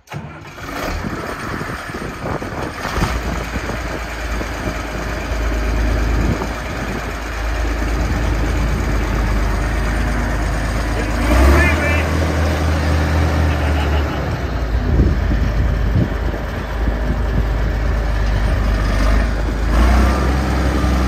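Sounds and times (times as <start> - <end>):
diesel tractor engine starting and idling: 0.0 - 21.0.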